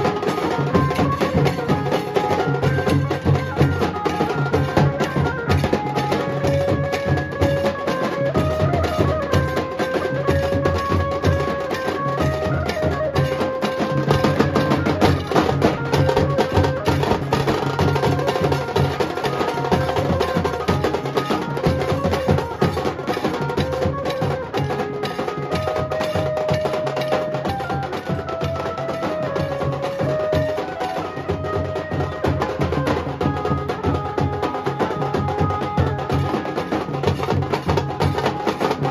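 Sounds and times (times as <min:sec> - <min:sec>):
rapid drum strokes: 0:00.0 - 0:38.9.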